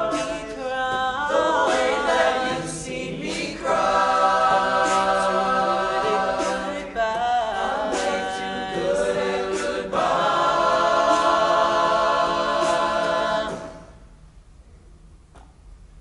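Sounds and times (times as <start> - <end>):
male a cappella group singing: 0.0 - 14.0.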